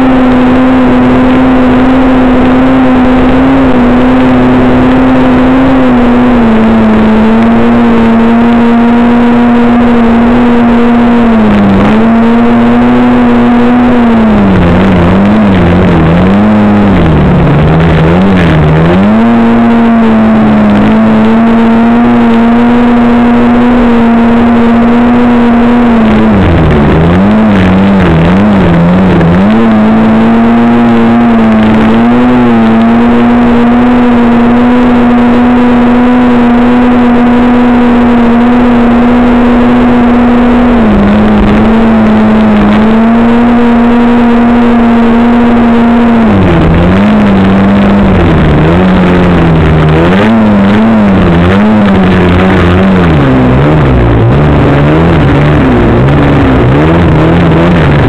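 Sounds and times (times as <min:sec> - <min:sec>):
snowmobile engine running hard: 0:00.0 - 0:58.0.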